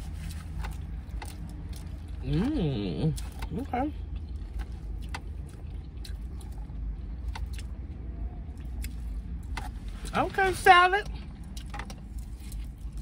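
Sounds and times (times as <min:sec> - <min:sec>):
food crunching: 0:00.0 - 0:10.1, 0:11.1 - 0:13.0
low car rumble: 0:00.0 - 0:13.0.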